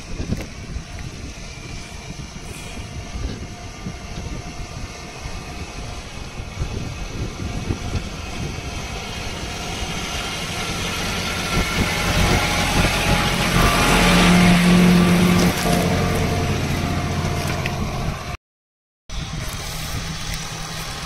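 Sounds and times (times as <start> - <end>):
diesel tractor engine under load: 0.0 - 18.4, 19.1 - 21.0.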